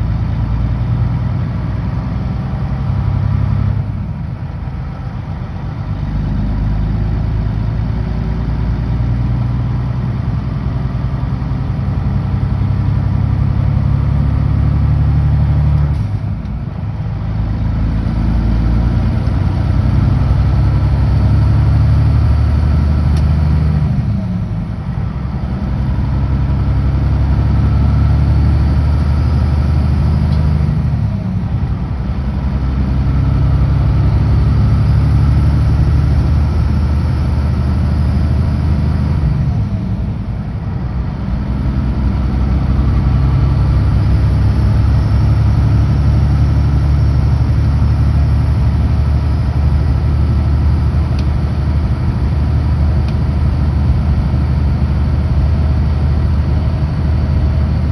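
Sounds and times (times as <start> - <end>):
truck diesel engine running: 0.0 - 57.9.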